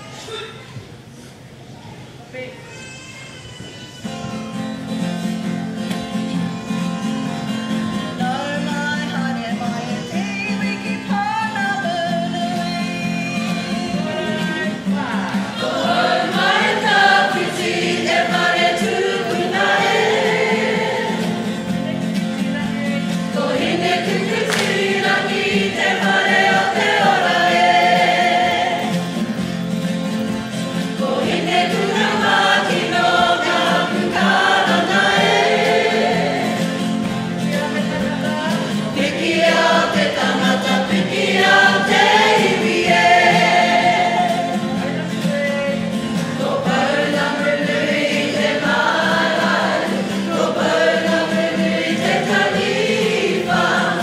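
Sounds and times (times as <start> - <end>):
men and women singing together: 7.4 - 54.0.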